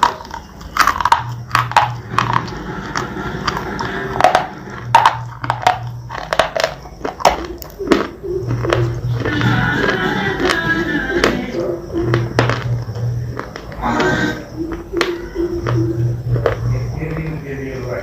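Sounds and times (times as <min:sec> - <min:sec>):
crunchy bar being chewed: 0:00.0 - 0:17.8.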